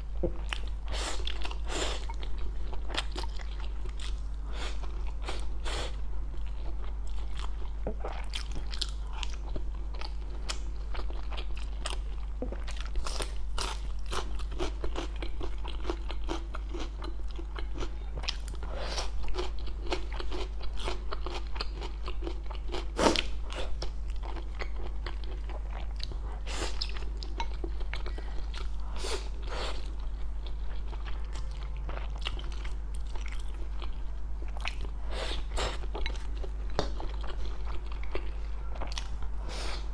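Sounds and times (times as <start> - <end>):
chewing and crunching food: 0.0 - 39.4.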